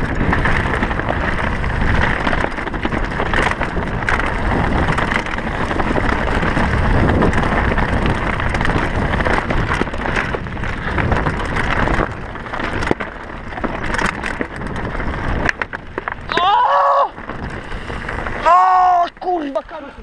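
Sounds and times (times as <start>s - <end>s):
bike clicking and rattling: 0.0s - 20.0s
bike tyre noise: 0.0s - 20.0s
wind buffeting microphone: 0.0s - 20.0s.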